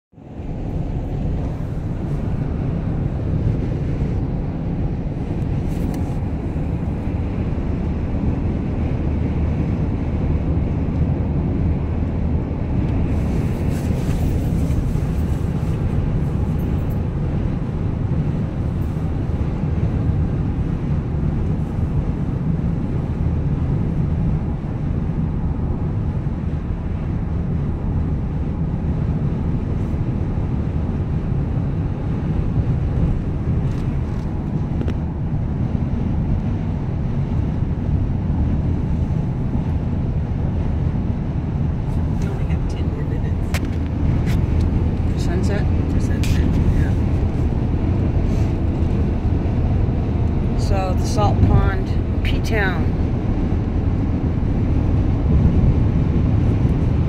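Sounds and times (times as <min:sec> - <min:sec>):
car cabin road and engine rumble: 0:00.1 - 0:57.0.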